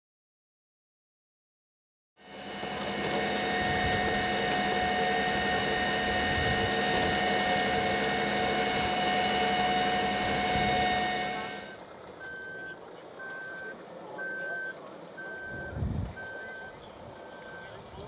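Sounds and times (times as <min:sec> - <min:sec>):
steady whine: 0:02.2 - 0:18.0
water pump machine noise: 0:02.2 - 0:18.0.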